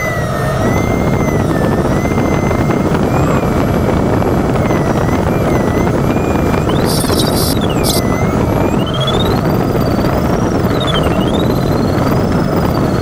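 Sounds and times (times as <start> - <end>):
wavering high electronic tone: 0.0 - 13.0.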